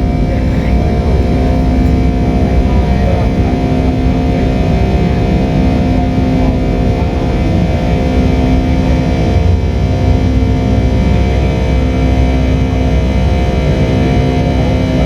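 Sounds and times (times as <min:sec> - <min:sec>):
jet engine drone inside cabin: 0:00.0 - 0:15.0.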